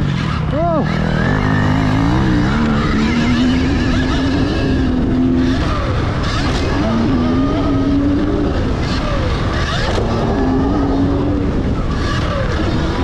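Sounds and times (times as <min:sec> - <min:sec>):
dirt bike engine revving: 0:00.0 - 0:13.0
wind: 0:00.0 - 0:13.0.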